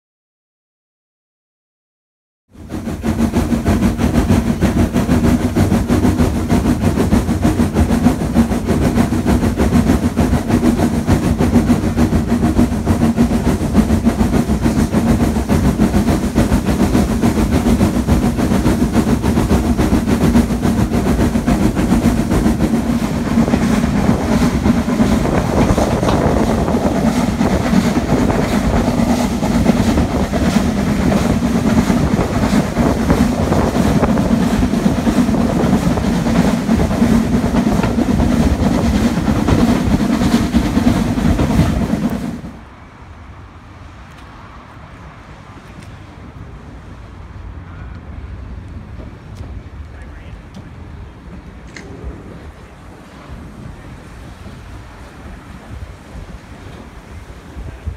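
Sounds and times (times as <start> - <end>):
rushing air: 2.5 - 49.8, 50.7 - 57.9
train wheels on rails: 2.5 - 57.9.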